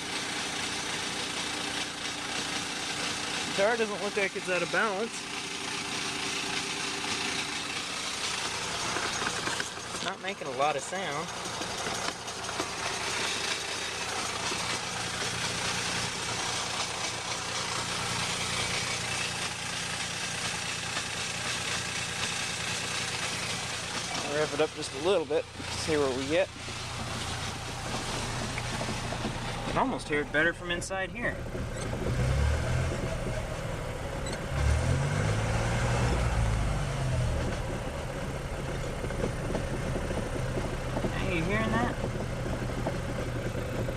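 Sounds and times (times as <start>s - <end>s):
uneven knocking from drivetrain: 0.0s - 30.1s, 31.4s - 33.6s, 37.3s - 43.9s
car engine droning: 0.0s - 43.9s.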